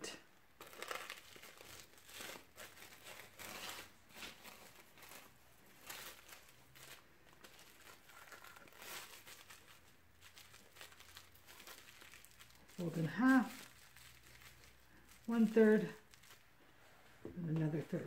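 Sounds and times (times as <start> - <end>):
crinkling of coat wrap: 0.6 - 18.0.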